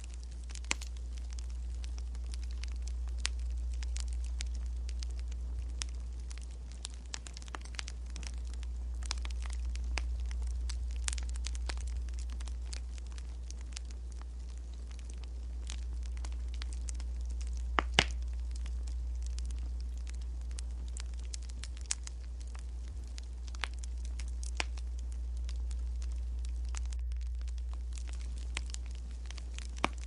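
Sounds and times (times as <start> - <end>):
steady low hum: 0.0 - 30.0
wood fire crackling: 0.0 - 30.0.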